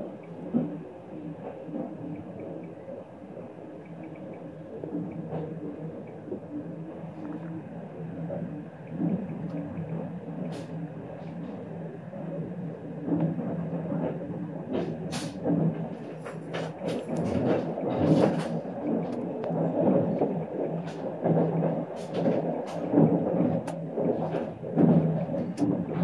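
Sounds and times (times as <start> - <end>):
sharp clicks and rattles: 0.0 - 26.0
train wheels rumbling on rail: 0.0 - 26.0.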